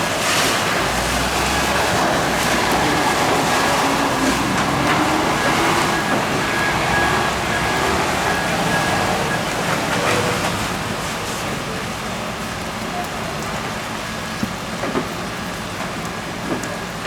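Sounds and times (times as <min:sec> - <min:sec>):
large fire rushing: 0:00.0 - 0:17.0.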